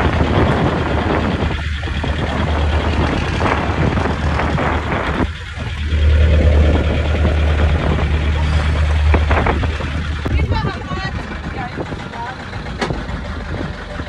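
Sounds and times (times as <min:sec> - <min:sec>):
boat engine running: 0:00.0 - 0:14.0
wind buffeting microphone: 0:00.0 - 0:14.0.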